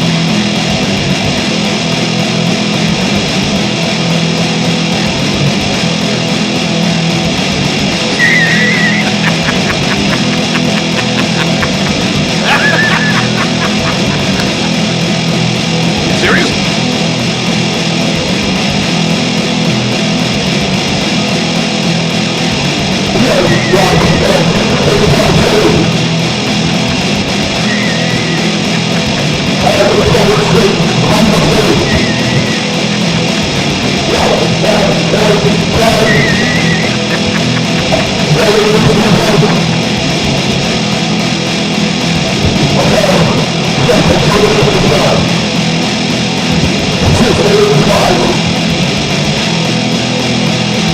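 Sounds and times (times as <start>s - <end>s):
distorted rock music with guitar: 0.0s - 50.9s.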